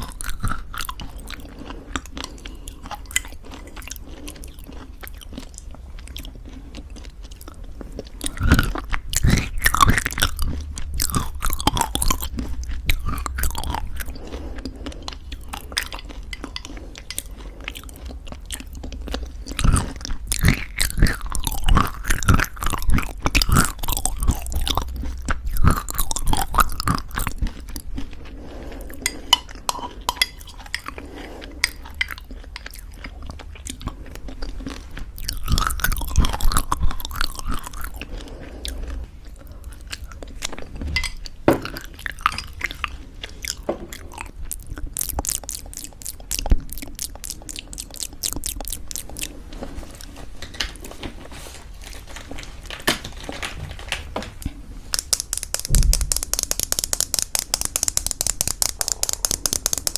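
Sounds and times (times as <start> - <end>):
crunchy chewing: 0.0 - 51.0, 54.4 - 59.9.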